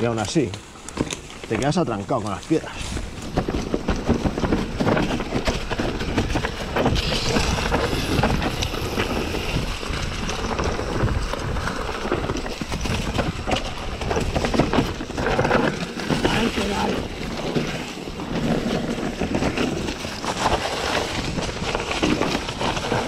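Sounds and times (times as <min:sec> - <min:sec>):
bike rattling over stony trail: 0:00.0 - 0:23.0
wind buffeting microphone: 0:01.6 - 0:23.0.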